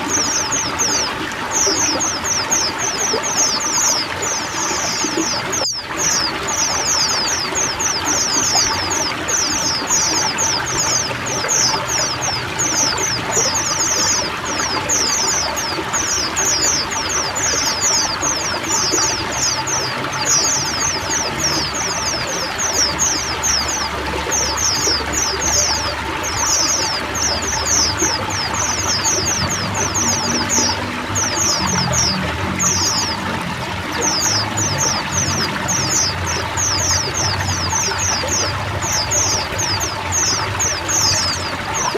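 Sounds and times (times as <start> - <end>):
birds chirping: 0.0 - 41.9
running water trickling: 0.0 - 41.9.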